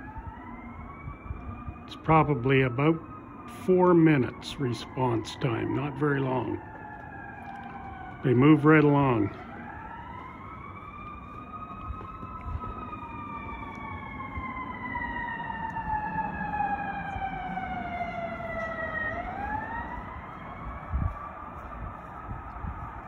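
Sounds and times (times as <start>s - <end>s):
fire truck siren wailing: 0.0s - 23.0s
low traffic rumble: 0.0s - 23.0s.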